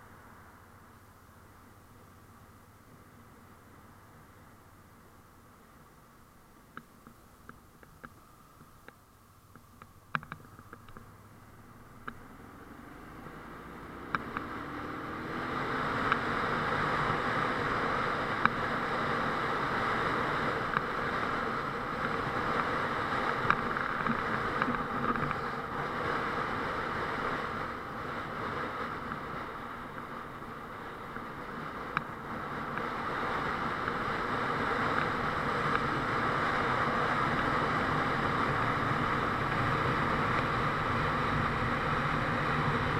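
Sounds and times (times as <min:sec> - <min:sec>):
motorcycle engine running: 0:07.0 - 0:42.9.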